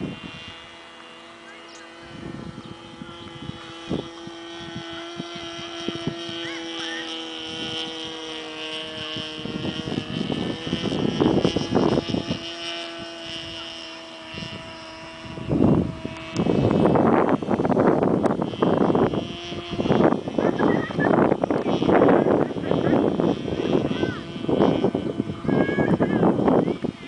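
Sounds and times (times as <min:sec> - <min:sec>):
model aeroplane engine droning: 0:00.0 - 0:27.0.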